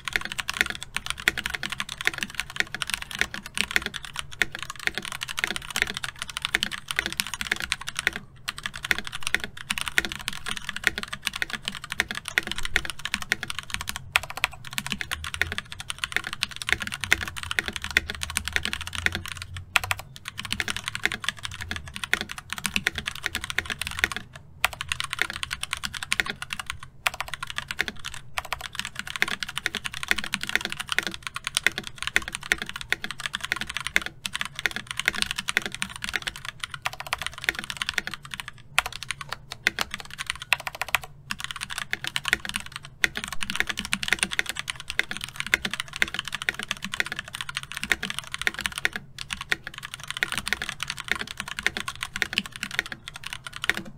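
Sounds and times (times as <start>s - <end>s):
fast typing on mechanical keyboard: 0.0s - 53.9s.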